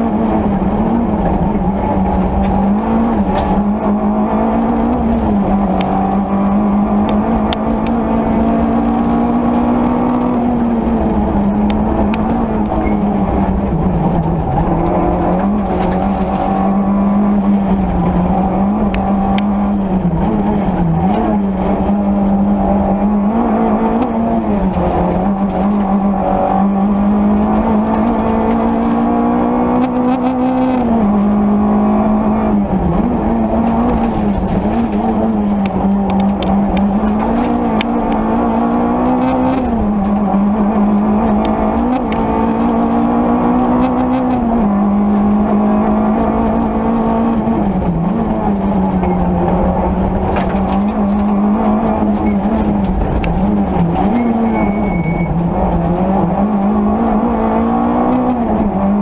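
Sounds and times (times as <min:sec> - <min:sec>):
rally car engine at high revs: 0:00.0 - 0:59.0.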